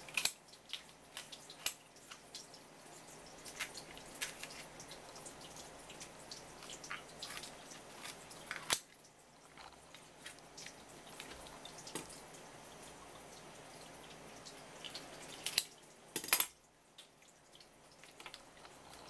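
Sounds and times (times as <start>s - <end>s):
crab shell clicking and crackling: 0.0s - 12.3s, 14.0s - 19.0s.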